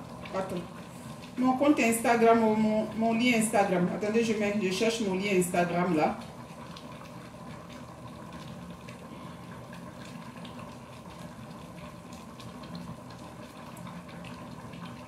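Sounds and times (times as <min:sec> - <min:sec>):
kitchen hiss and hum: 0:00.0 - 0:15.0.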